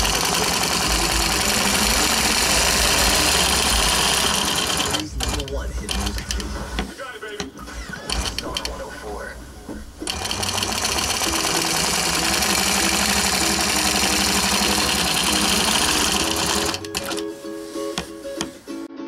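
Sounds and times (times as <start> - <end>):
quilting machine stitching: 0.0 - 6.9, 7.6 - 9.0, 10.0 - 17.4.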